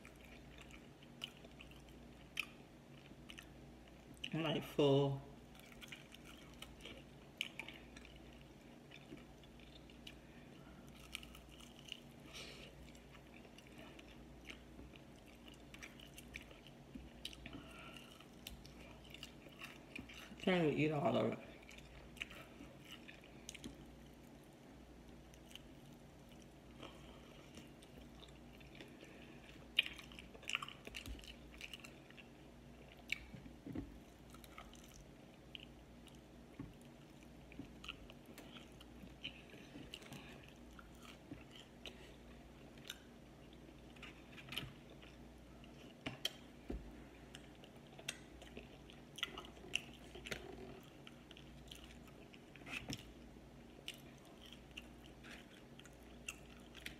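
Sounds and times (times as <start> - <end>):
person chewing and smacking: 0.0 - 4.3, 5.4 - 20.4, 21.5 - 56.9
faint low hum: 0.0 - 56.9.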